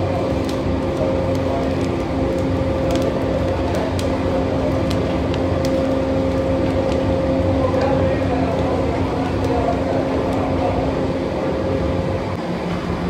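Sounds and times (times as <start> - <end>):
wood fire crackling and popping: 0.0 - 12.4
iron rod stirring fire: 0.0 - 13.0
steady low hum: 0.0 - 13.0.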